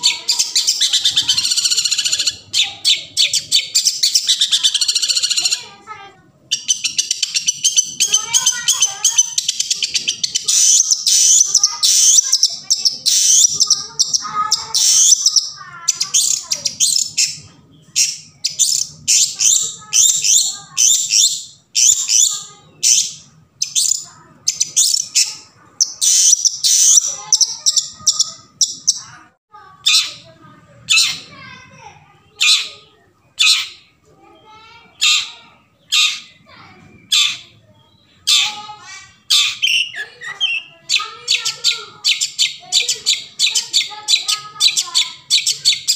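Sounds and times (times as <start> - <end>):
bird chattering and chirping: 0.0 - 45.9.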